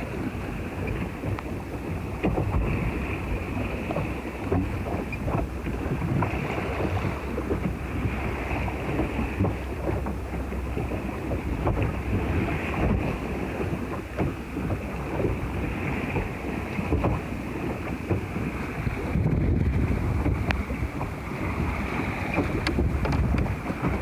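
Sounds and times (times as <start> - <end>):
water lapping against hull: 0.0 - 24.0
wind buffeting microphone: 0.0 - 24.0.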